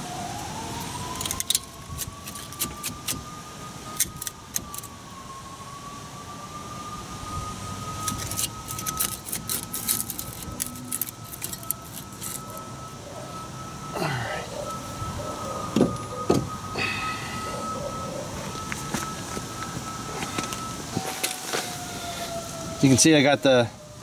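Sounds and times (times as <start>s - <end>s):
steady high whine: 0.0s - 24.0s.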